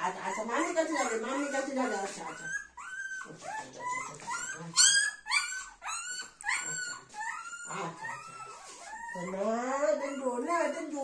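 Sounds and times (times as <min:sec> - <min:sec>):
puppy squealing and whimpering: 0:00.1 - 0:11.0.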